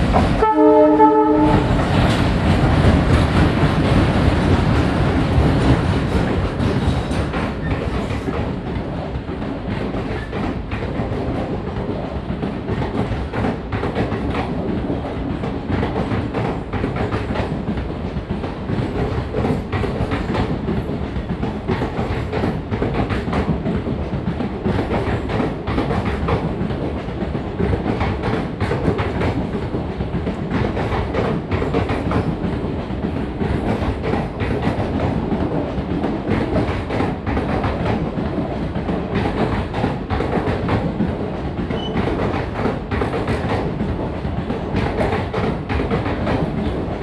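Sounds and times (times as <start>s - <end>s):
train coaches rumbling past: 0.0s - 47.0s.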